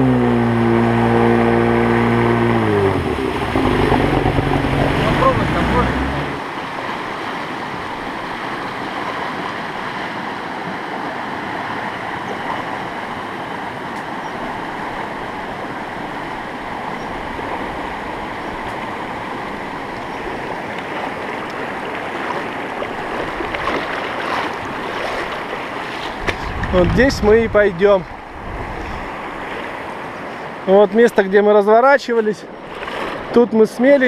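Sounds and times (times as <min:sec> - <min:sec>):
river water rushing over rapids: 0:00.0 - 0:26.9, 0:27.7 - 0:31.7.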